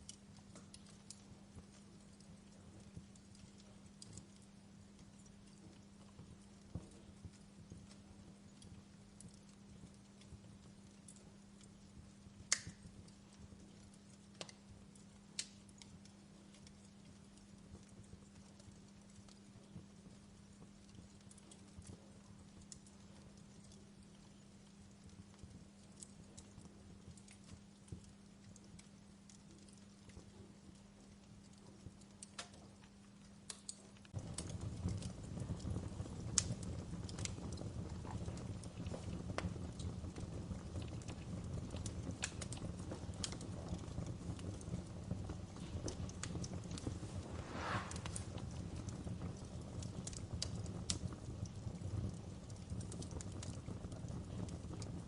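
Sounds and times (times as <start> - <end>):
fire crackling and popping: 0.0 - 55.0
low rumble of burning: 0.0 - 55.0.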